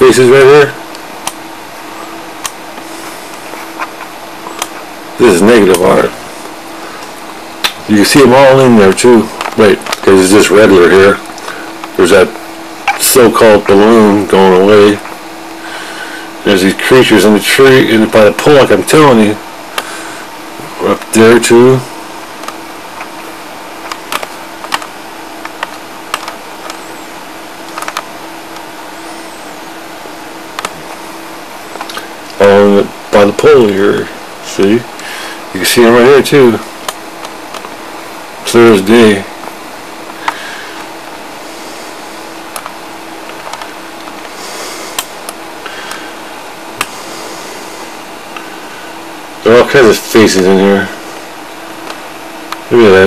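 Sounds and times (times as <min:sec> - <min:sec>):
low hum and hiss: 0:00.0 - 0:53.0.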